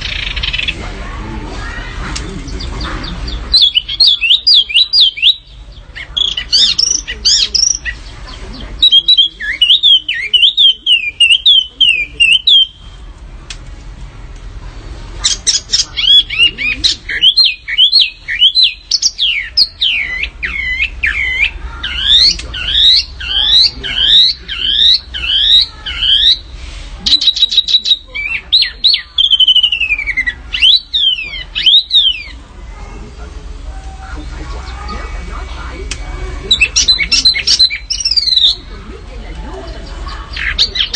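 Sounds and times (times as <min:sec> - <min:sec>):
songbirds singing chirps: 0:00.0 - 0:40.9.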